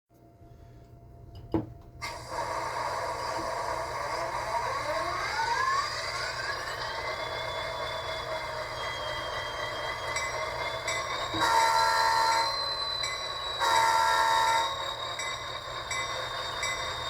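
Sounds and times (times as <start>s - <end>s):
rising whine: 2.0s - 17.0s.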